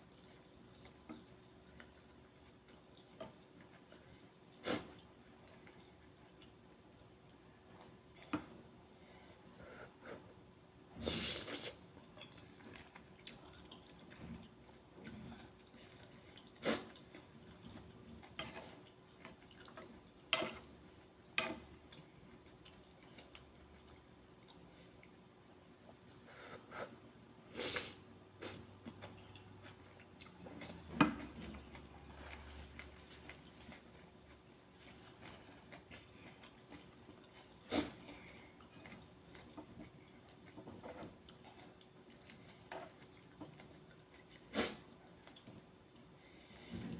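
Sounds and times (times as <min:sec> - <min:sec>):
faint chewing: 0:00.0 - 0:10.4, 0:11.2 - 0:46.9.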